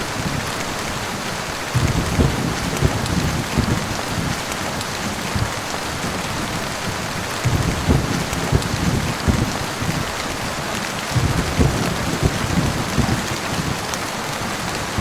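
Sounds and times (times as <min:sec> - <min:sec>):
heavy rain: 0:00.0 - 0:15.0
thunder rumbles: 0:01.5 - 0:15.0.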